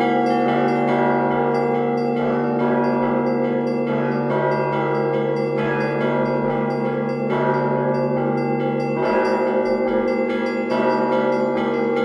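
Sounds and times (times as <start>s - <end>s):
church bells ringing: 0.0s - 12.0s.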